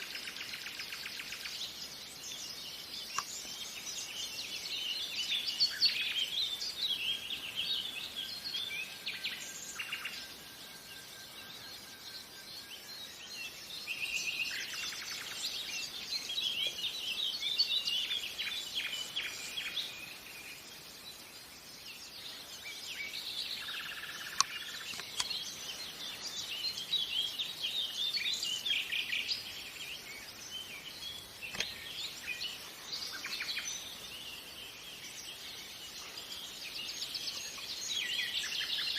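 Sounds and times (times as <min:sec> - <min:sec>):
faint background hiss: 0:00.0 - 0:38.9
nightingale singing: 0:00.0 - 0:38.9.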